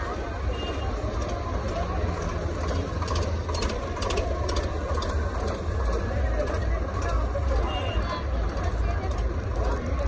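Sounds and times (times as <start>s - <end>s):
engine running with rhythmic knock: 0.0s - 10.0s.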